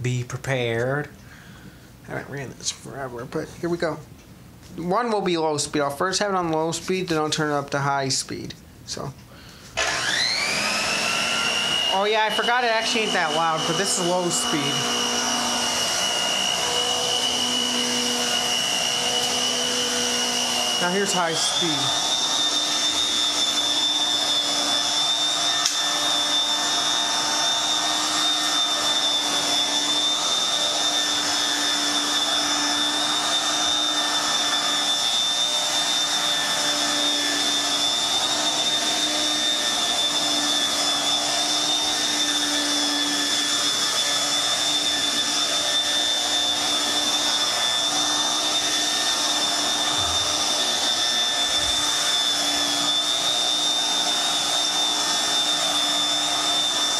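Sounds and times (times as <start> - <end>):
stick vacuum running: 9.8 - 56.9.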